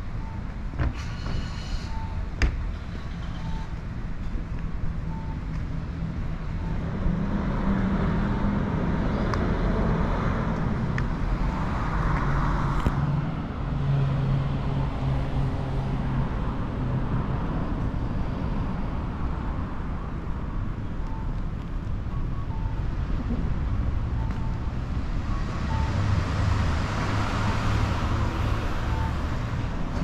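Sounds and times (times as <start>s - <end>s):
vehicle engines running: 0.0s - 30.0s.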